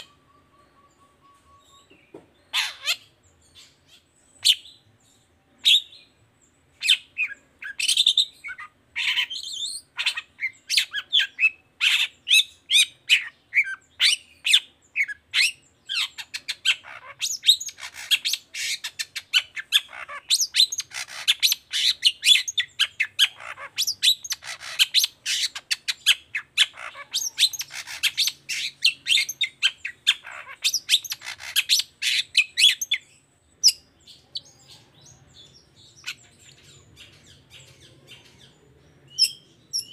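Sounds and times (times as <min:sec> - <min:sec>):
bird singing harsh chirps: 0:00.0 - 0:39.9.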